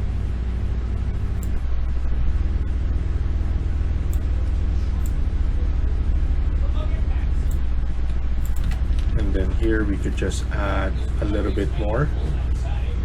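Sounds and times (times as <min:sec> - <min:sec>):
low rumble: 0:00.0 - 0:11.4.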